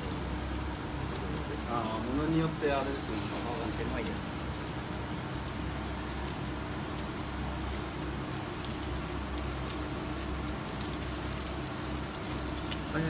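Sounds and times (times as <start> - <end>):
chicken sizzling: 0.0 - 13.0
faint crackles: 0.0 - 13.0
gas grill hissing: 0.0 - 13.0.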